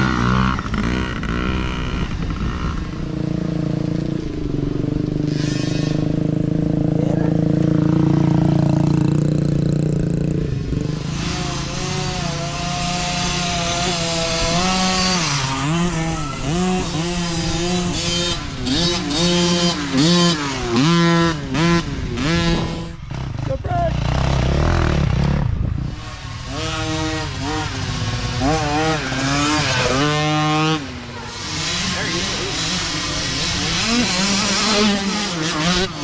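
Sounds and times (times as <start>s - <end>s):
dirt bike engine revving: 0.0s - 36.0s
steady engine drone: 0.0s - 36.0s.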